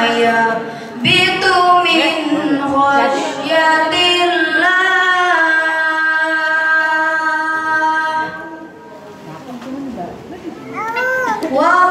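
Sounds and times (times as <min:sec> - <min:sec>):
boy reciting in long chant: 0:00.0 - 0:08.7, 0:10.8 - 0:11.9.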